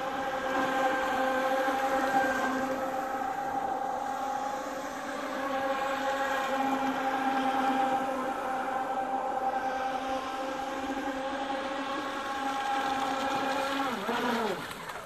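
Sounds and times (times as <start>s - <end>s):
speedboat motors whining: 0.0s - 15.0s.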